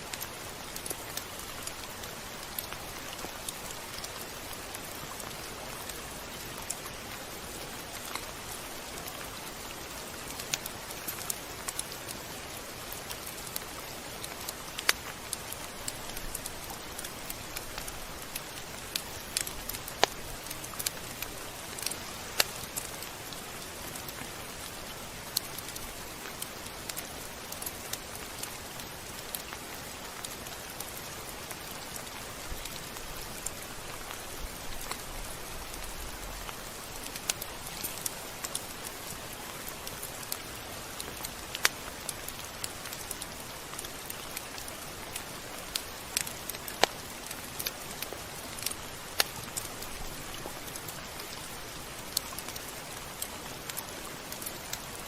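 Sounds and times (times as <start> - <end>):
raindrops ticking on hard surface: 0.0 - 55.0
steady rain hiss: 0.0 - 55.0.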